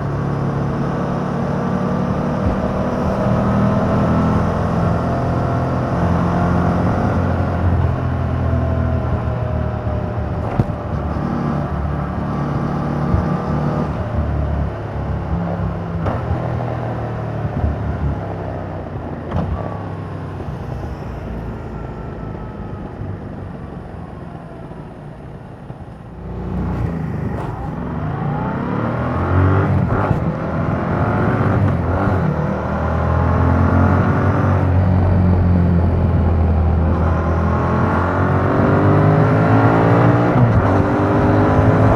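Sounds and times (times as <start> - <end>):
motorcycle engine revving: 0.0 - 19.8, 26.0 - 41.9.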